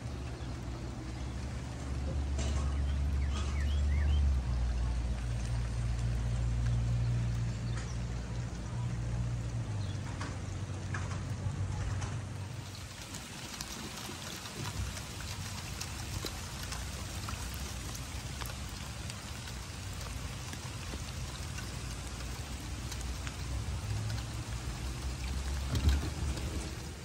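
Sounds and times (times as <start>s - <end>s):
rain drops ticking: 0.0s - 27.0s
rain hiss: 0.0s - 27.0s.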